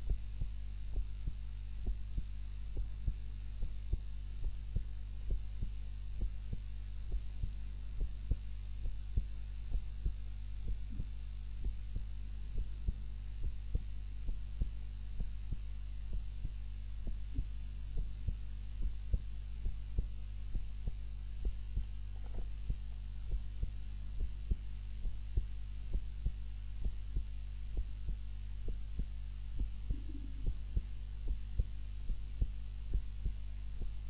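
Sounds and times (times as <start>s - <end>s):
heartbeat thumps: 0.0s - 34.0s
steady low hum: 0.0s - 34.0s.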